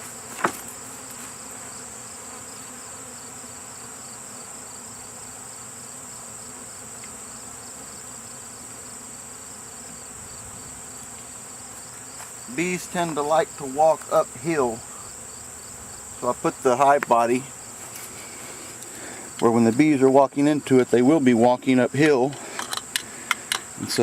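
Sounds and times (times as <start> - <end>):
bee swarm buzzing: 0.0 - 24.0.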